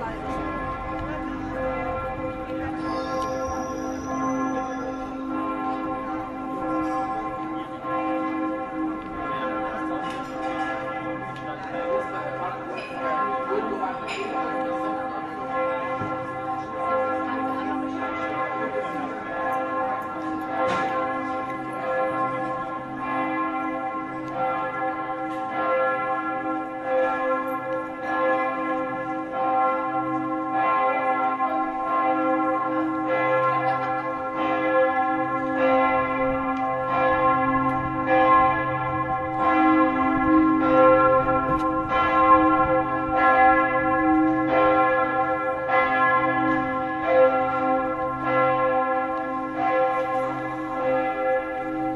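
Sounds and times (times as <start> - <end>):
large church bell ringing: 0.0 - 51.9.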